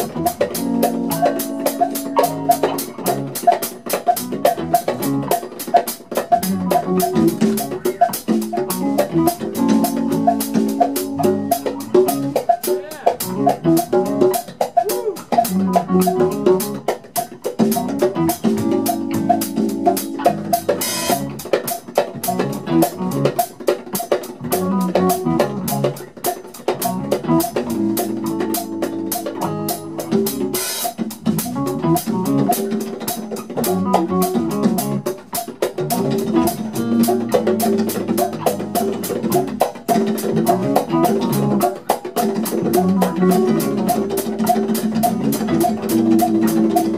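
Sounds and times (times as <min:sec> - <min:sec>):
bass notes: 0:00.0 - 0:03.5, 0:04.2 - 0:05.4, 0:06.3 - 0:14.4, 0:15.0 - 0:16.9, 0:17.6 - 0:21.5, 0:22.2 - 0:23.4, 0:24.4 - 0:26.1, 0:26.7 - 0:30.6, 0:31.2 - 0:35.1, 0:35.7 - 0:46.9
drum kit beat: 0:00.0 - 0:46.9
electric guitar: 0:00.0 - 0:46.9
hand percussion: 0:00.0 - 0:46.9
keyboard notes: 0:00.0 - 0:46.9.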